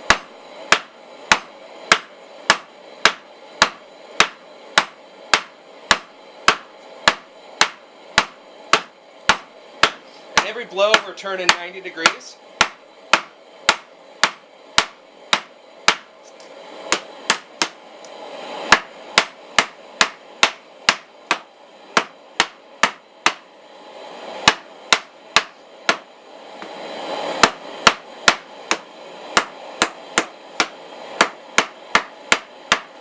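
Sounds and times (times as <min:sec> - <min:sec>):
hammer striking steel on anvil: 0:00.0 - 0:16.1, 0:16.9 - 0:17.8, 0:18.7 - 0:23.4, 0:24.4 - 0:26.1, 0:27.4 - 0:33.0.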